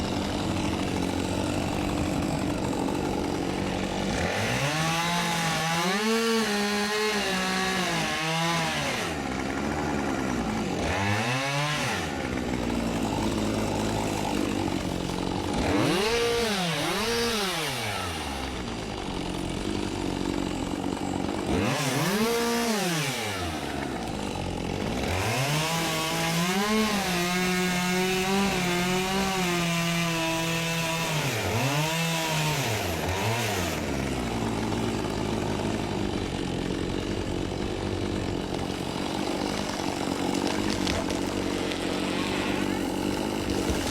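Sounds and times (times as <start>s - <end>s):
chainsaw revving cutting wood: 0.0s - 43.9s.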